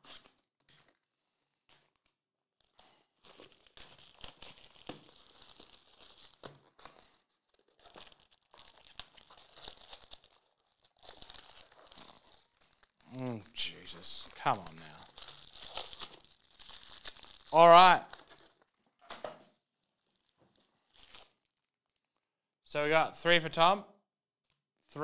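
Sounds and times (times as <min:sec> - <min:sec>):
plastic wrapper crinkling and tearing: 0:00.0 - 0:22.3.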